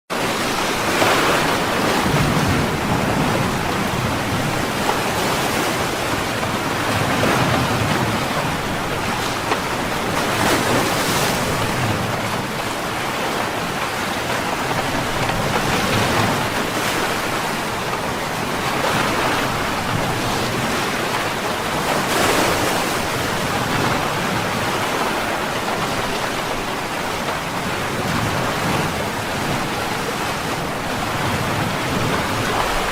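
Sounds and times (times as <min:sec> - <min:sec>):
ocean waves breaking: 0:00.1 - 0:32.9
rain falling: 0:00.2 - 0:32.9.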